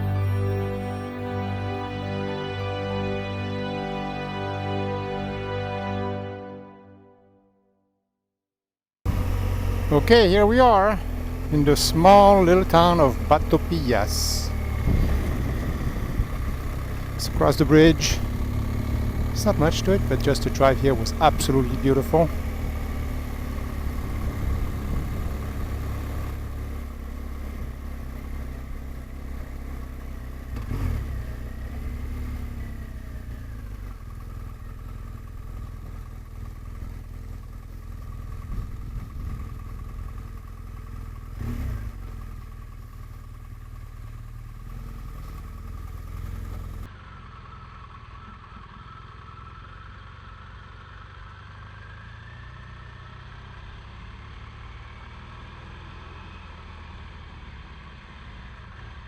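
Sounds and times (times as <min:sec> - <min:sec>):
motorcycle engine running: 0:09.1 - 0:59.0.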